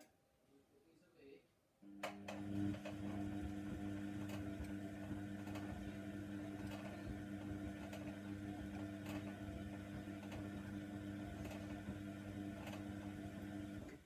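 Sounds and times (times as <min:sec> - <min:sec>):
washer dryer motor hum: 0:01.9 - 0:14.0.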